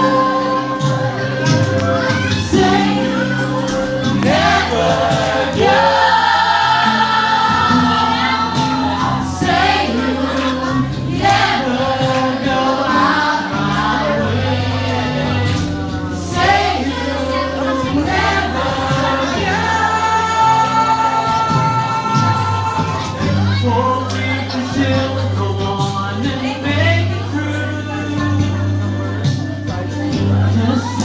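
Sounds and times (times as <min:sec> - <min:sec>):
bass line: 0:00.0 - 0:31.0
voices singing: 0:00.0 - 0:31.0.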